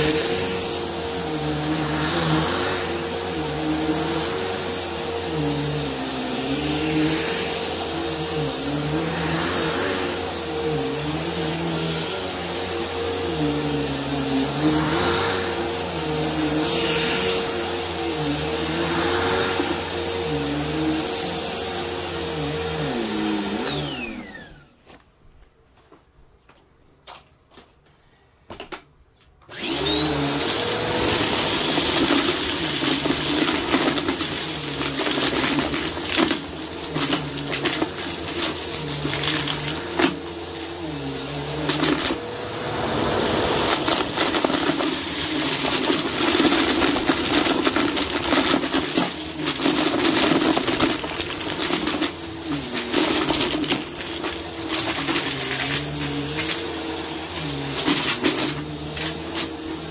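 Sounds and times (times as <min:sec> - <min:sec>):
vacuum cleaner running: 0:00.0 - 0:25.0, 0:29.5 - 0:59.9.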